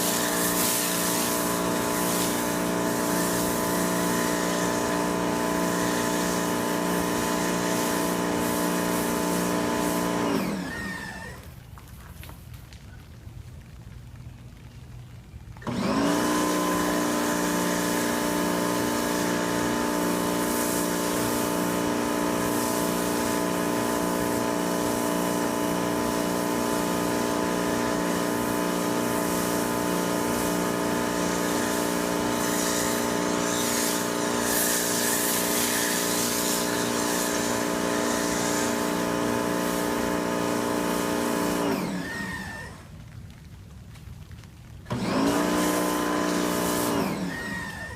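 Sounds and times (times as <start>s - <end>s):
pressure washer motor whine: 0.0s - 11.5s, 15.6s - 43.0s, 44.9s - 47.9s
water spray hiss: 0.0s - 11.6s, 15.6s - 43.1s, 44.8s - 47.9s.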